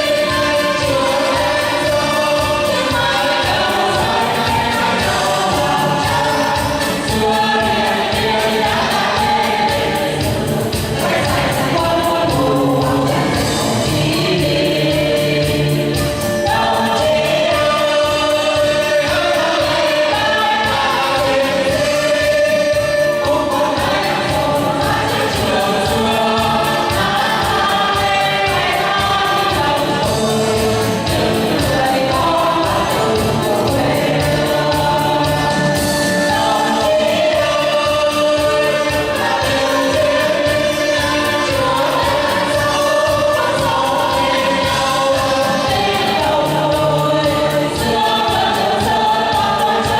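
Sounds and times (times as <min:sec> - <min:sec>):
choir singing a march: 0:00.0 - 0:49.9
instrumental accompaniment: 0:00.0 - 0:49.9.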